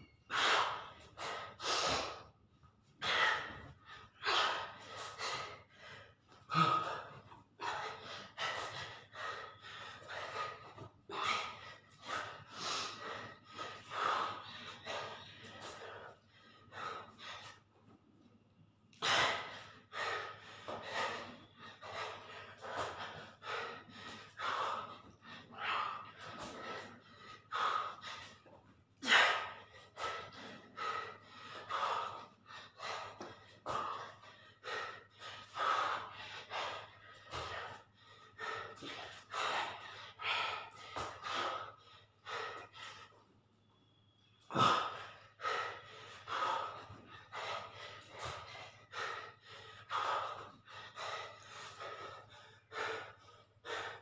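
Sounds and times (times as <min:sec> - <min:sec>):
man breathing heavily: 0:00.0 - 0:54.0.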